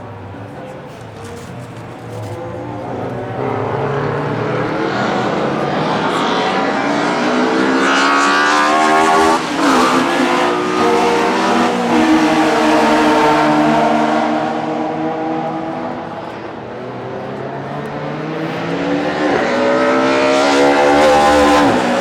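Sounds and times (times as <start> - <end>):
race cars accelerating: 0.0 - 22.0.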